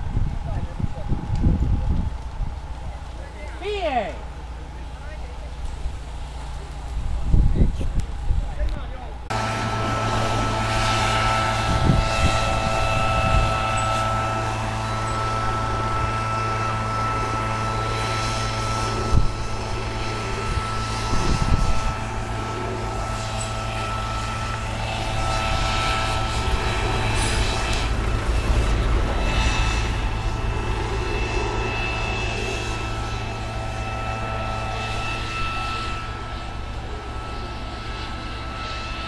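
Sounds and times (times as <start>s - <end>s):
engine drone with whine: 0.0s - 39.0s.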